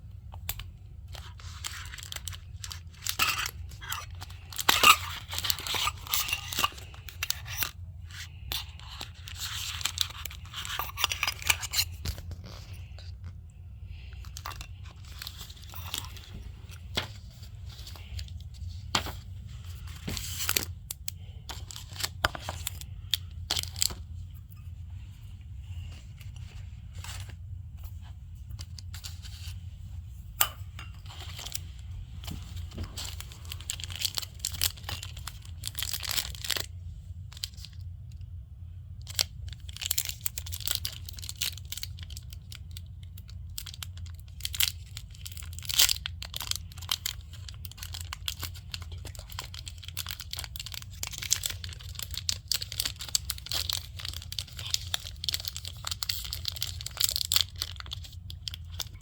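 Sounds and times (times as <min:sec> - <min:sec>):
steady low hum: 0:00.0 - 0:59.0
plastic packaging crinkling: 0:00.3 - 0:29.8, 0:30.4 - 0:37.9, 0:39.0 - 0:59.0.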